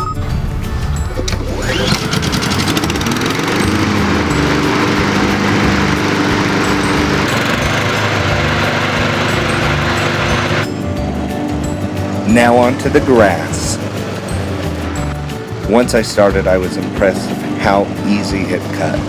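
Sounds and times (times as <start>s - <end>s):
lawn mower engine starting and running: 1.0s - 19.0s.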